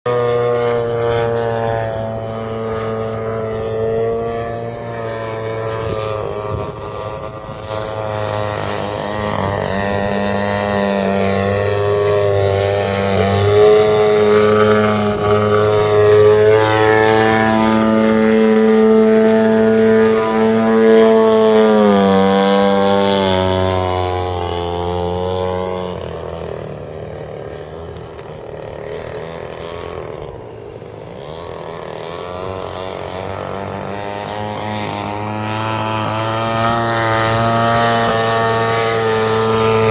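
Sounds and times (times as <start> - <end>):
model plane two-stroke engine: 0.0 - 39.9.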